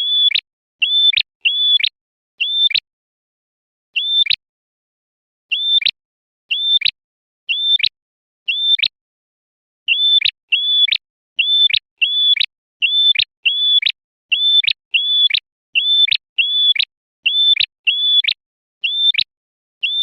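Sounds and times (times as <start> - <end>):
bird whistling calls: 0.0 - 2.8, 3.9 - 4.4, 5.5 - 8.9, 9.9 - 20.0.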